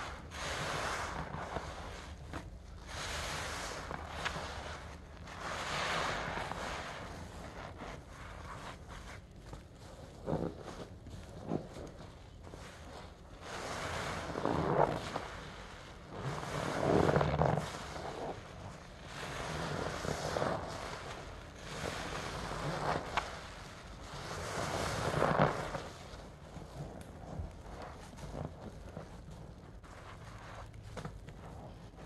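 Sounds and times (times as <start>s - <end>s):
crackling foam: 0.0s - 32.0s
wet sponge squelching: 0.0s - 32.0s.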